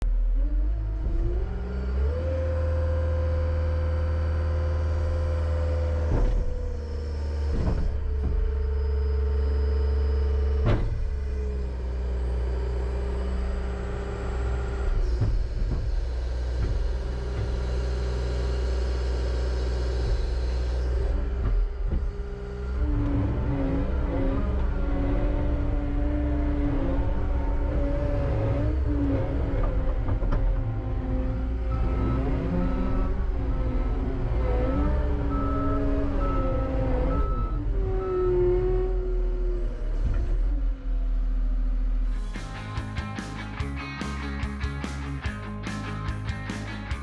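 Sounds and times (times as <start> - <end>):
diesel engine at high revs: 0.0 - 47.0.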